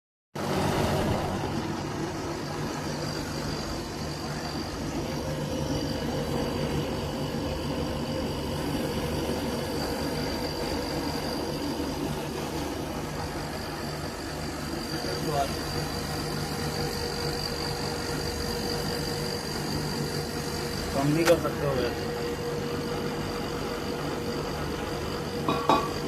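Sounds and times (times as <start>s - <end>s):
air conditioner humming: 0.4s - 26.0s
faint high whine: 1.1s - 26.0s.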